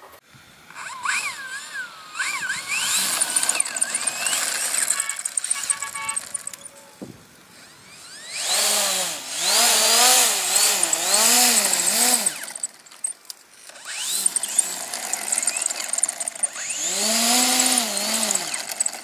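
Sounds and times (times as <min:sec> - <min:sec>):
electric motor and propeller revving: 0:00.6 - 0:06.7, 0:07.5 - 0:19.0.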